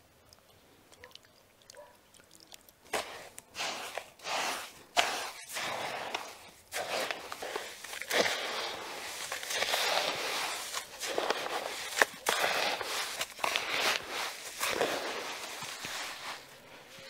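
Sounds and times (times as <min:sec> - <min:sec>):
wet salt crunching: 0:02.2 - 0:16.8.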